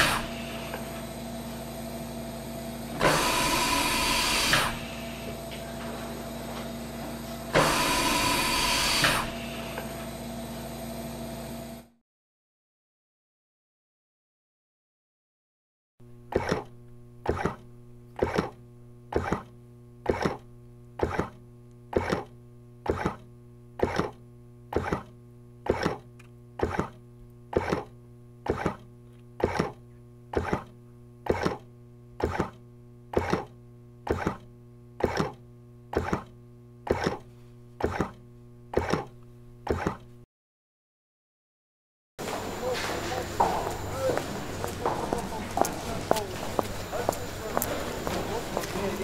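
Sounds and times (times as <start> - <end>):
electrical hum: 0.0 - 12.0, 16.0 - 40.3, 42.2 - 49.0.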